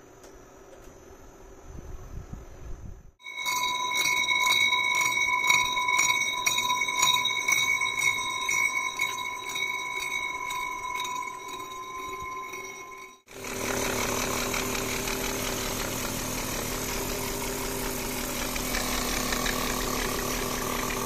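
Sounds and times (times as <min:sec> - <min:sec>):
milling cutter ringing on metal: 0:03.2 - 0:21.0.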